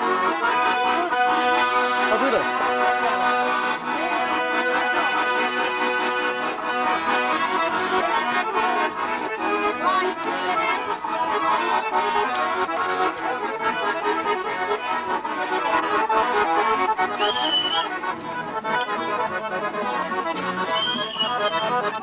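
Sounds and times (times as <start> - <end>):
accordion folk dance tune: 0.0 - 22.0.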